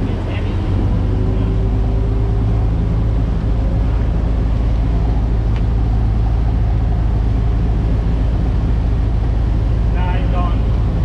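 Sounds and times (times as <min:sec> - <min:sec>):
boat engines droning: 0:00.0 - 0:11.0
wake rushing: 0:00.0 - 0:11.0.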